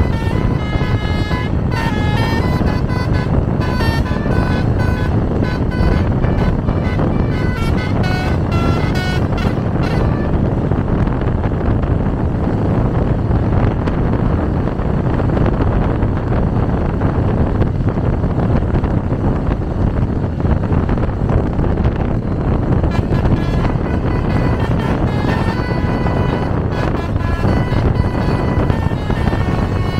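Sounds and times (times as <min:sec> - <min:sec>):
vehicle and road noise: 0:00.0 - 0:29.9
wind rushing on microphone: 0:00.0 - 0:29.9.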